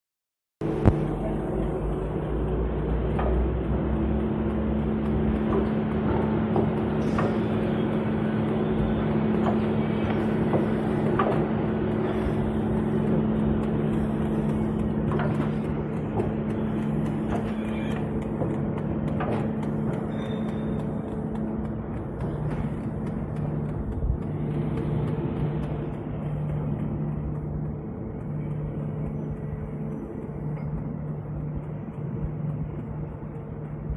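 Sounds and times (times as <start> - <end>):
machine motor hum: 0.6 - 33.9
machine clicks and knocks: 0.8 - 29.1.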